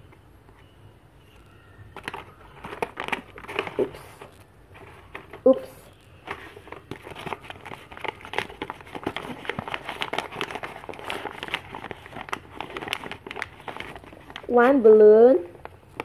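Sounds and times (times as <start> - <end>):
paper crinkling: 0.6 - 16.0.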